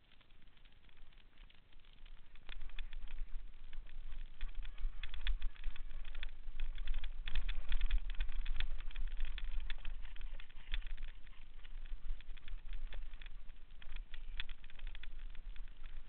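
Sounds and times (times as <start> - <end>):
low uneven rumble: 0.0 - 16.0
mountain bike rattling: 0.4 - 16.0.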